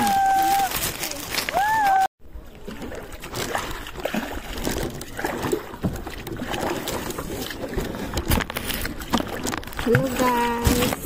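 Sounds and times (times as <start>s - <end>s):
water sloshing around kayak: 0.1s - 11.0s.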